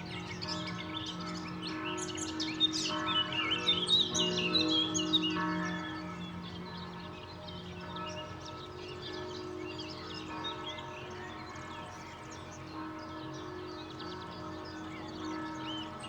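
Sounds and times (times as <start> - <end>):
distant church bells ringing: 0.0 - 16.0.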